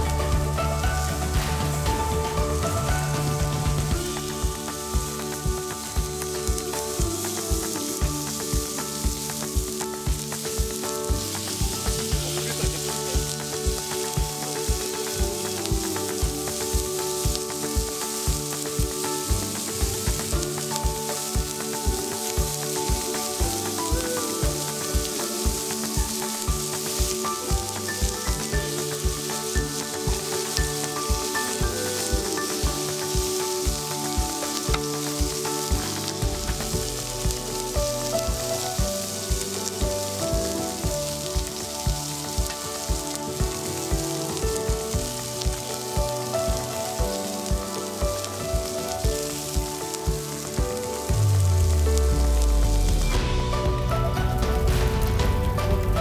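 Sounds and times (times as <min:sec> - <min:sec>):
background music with beat: 0:00.0 - 0:56.0
meat and vegetables sizzling: 0:00.0 - 0:56.0.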